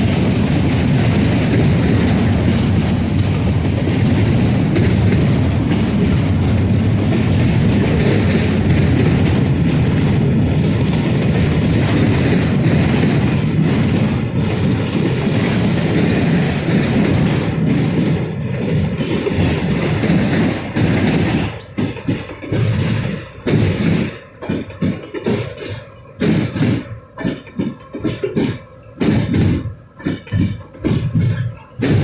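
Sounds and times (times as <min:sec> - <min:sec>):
freight train rumble: 0:00.0 - 0:32.0
train wheels clicking over rail joints: 0:00.0 - 0:32.0.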